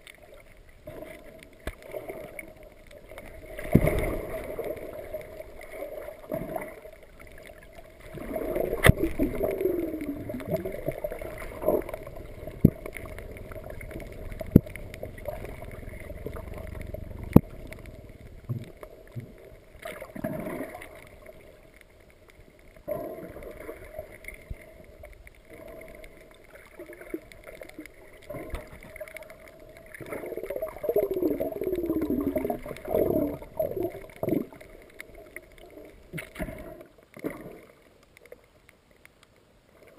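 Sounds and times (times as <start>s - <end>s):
underwater gurgling and bubbling: 0.0s - 38.5s.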